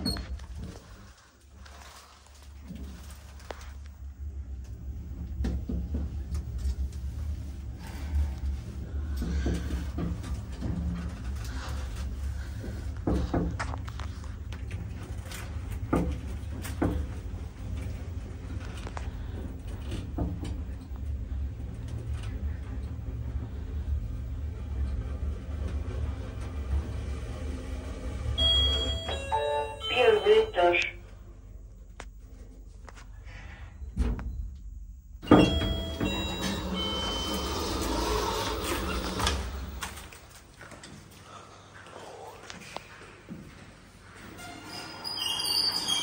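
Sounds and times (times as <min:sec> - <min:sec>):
lift ride low rumble: 0:00.0 - 0:40.2.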